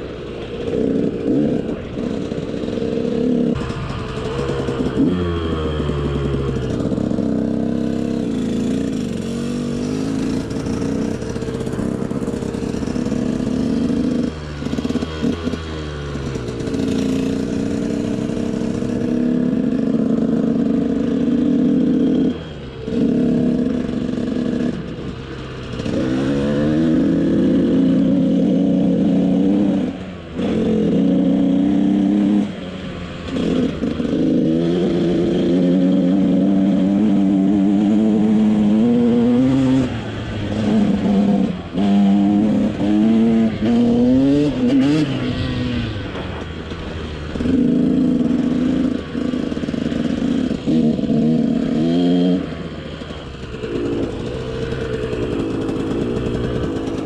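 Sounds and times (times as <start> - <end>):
two-stroke dirt bike engine revving: 0.0 - 57.0.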